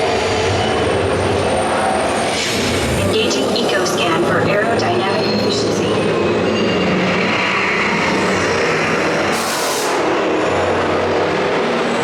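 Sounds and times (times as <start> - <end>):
ride vehicle running on track: 0.0 - 12.0.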